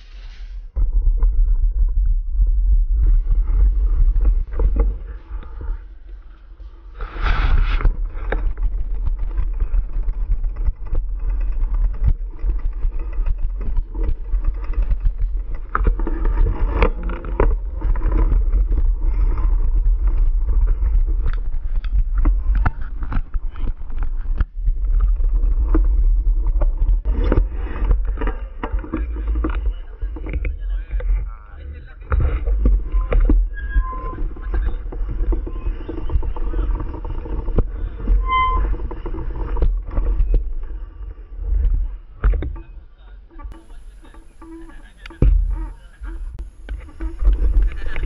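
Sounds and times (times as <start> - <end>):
bike tyres on dirt trail: 0.0 - 31.3, 32.2 - 48.0
wind rumble on microphone: 0.0 - 48.0
bike and mount rattling: 2.9 - 48.0.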